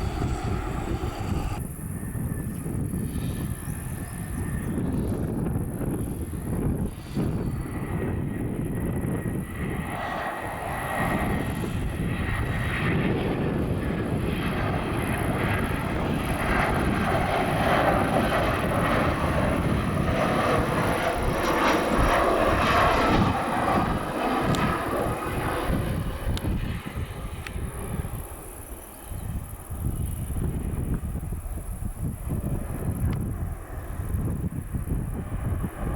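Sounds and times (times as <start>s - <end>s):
airliner engine noise: 0.0s - 35.9s.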